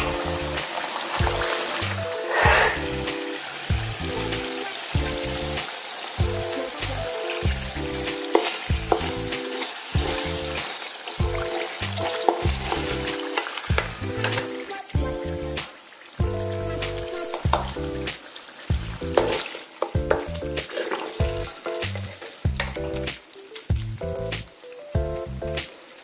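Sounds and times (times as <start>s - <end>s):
paste sizzling in oil: 0.0s - 26.0s
rhythmic background music: 0.0s - 26.0s.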